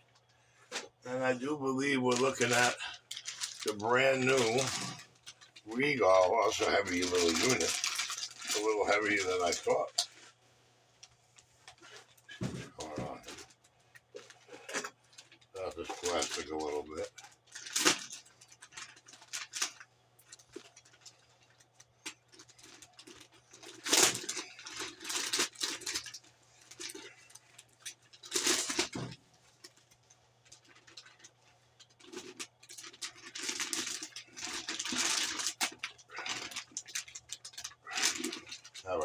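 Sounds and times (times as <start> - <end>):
plastic wrap crinkling: 1.6 - 39.0.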